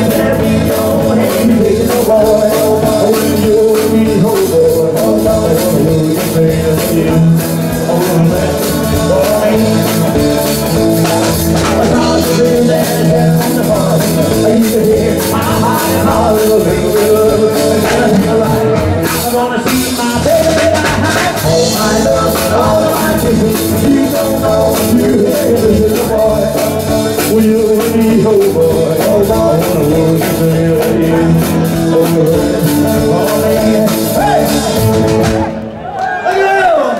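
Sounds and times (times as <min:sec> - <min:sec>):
person singing: 0:00.0 - 0:35.6
live rock band playing: 0:00.0 - 0:36.0
drums: 0:00.0 - 0:36.9
guitar: 0:00.0 - 0:36.9.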